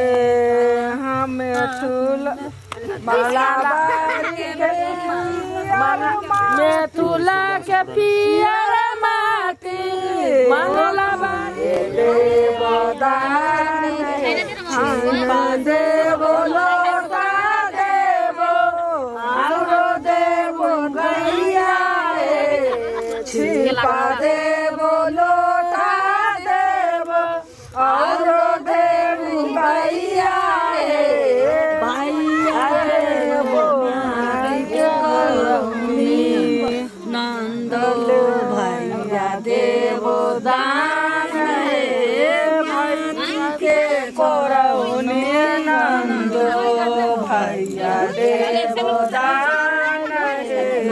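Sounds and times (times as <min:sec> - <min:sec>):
women singing in chorus: 0:00.0 - 0:50.9.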